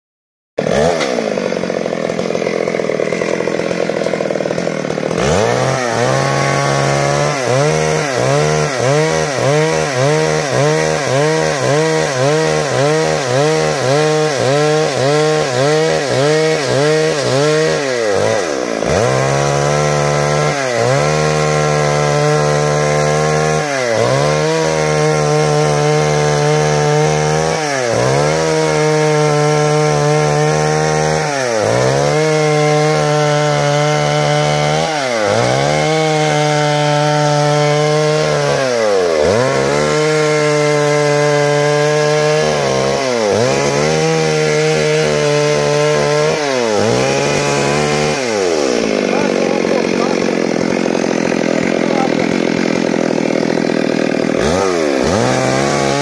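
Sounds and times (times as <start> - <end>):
chainsaw cutting wood: 0.6 - 56.0.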